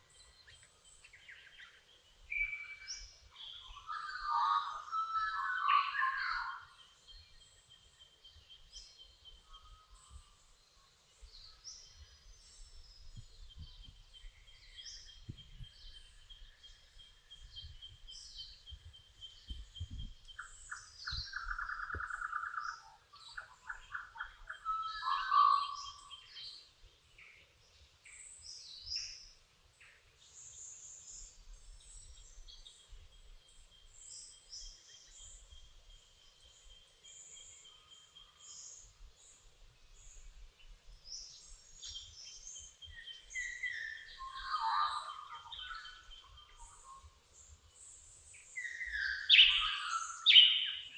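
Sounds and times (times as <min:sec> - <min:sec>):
birds singing and chirping: 0:00.0 - 0:29.4, 0:30.2 - 0:50.9.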